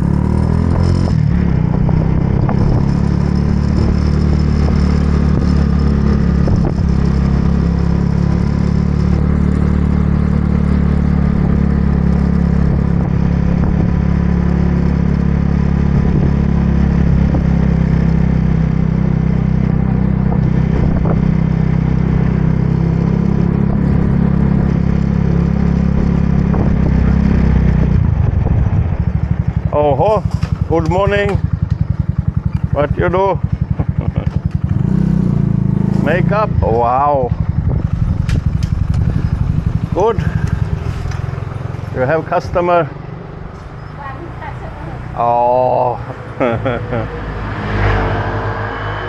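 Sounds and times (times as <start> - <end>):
motorbike engine rumble: 0.0 - 49.0.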